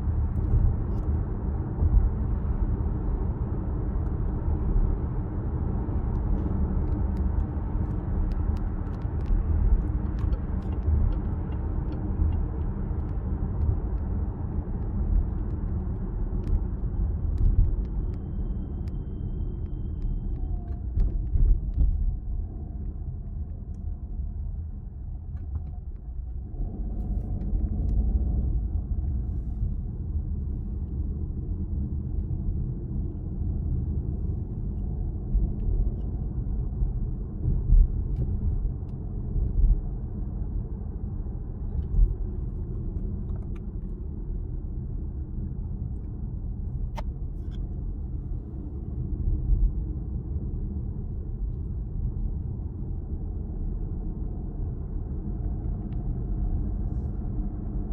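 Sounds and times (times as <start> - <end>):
road and tyre rumble: 0.0 - 57.9.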